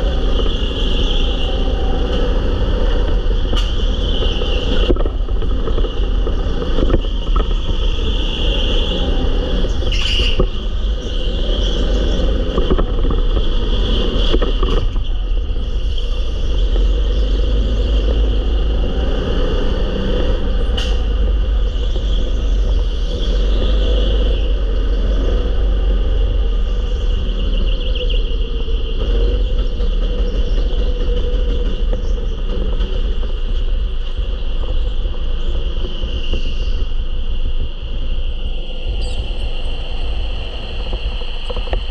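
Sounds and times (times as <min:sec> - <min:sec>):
go-kart engine rumble: 0:00.0 - 0:41.9.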